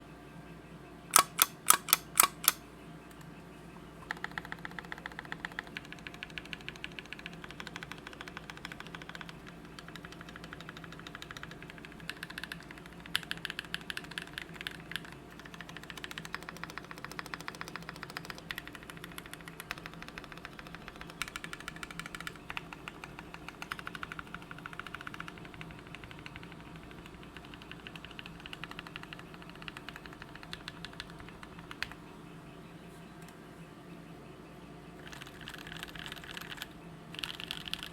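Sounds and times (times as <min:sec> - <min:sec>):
mechanical keyboard typing: 0:01.1 - 0:02.6, 0:04.0 - 0:32.0, 0:35.0 - 0:37.9.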